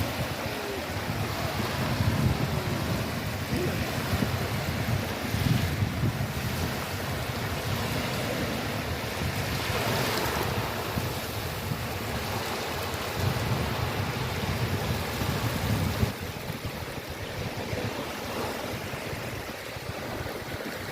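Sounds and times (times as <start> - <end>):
sea surf washing in: 0.0 - 20.9
wind gusting on microphone: 0.0 - 20.9.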